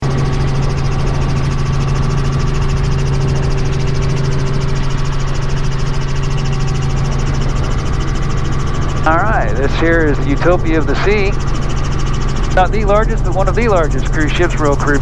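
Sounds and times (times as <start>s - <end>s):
helicopter drone from cabin: 0.0s - 15.0s.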